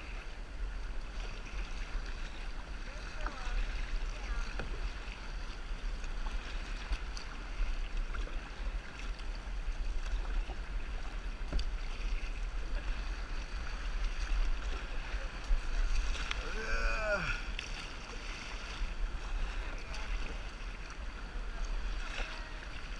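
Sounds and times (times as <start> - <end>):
water lapping and splashing: 0.0 - 22.9.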